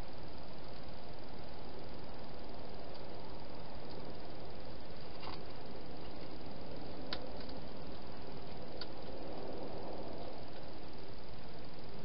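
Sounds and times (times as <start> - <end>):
steady microphone hiss: 0.0 - 12.0.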